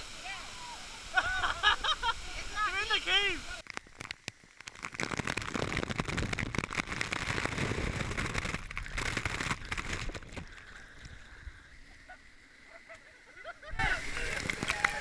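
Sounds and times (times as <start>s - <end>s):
waterfall spray hitting camera: 0.0s - 12.0s, 13.7s - 15.0s.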